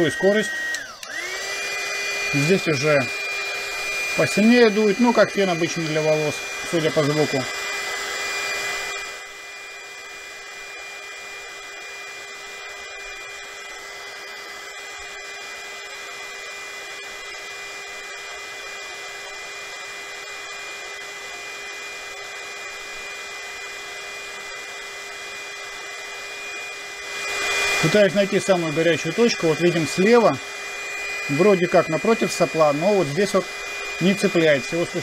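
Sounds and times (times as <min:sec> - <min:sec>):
heat gun blowing air: 0:00.0 - 0:35.0.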